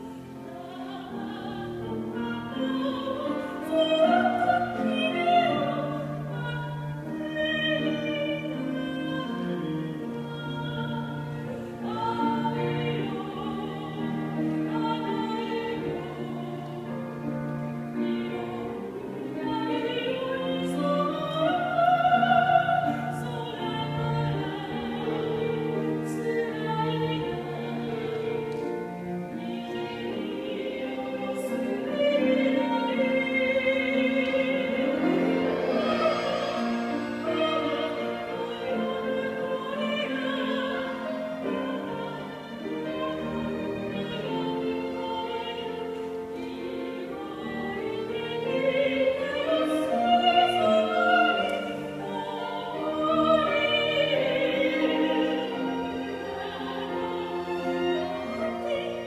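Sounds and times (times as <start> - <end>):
cello: 0.0 - 59.0
piano: 0.0 - 59.0
soprano singing classical song: 0.0 - 59.0
violin: 0.0 - 59.0.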